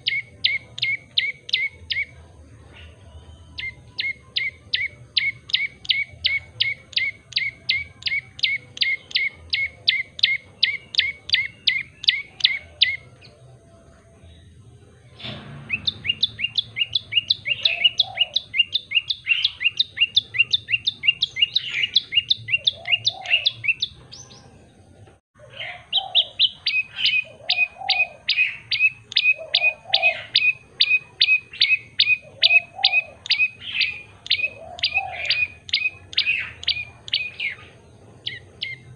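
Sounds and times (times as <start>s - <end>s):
bird singing rapid sharp notes: 0.0s - 24.9s, 25.9s - 38.9s.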